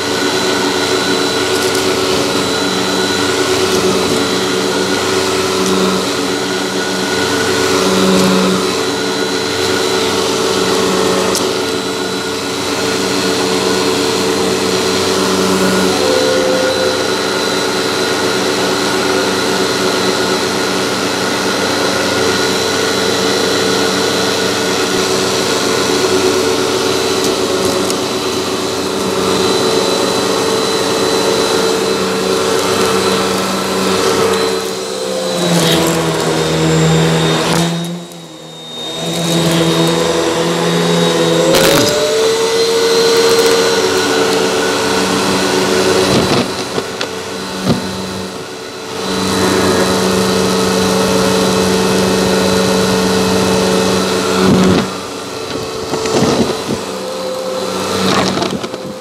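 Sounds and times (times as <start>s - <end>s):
upright vacuum on carpet: 0.0s - 59.0s.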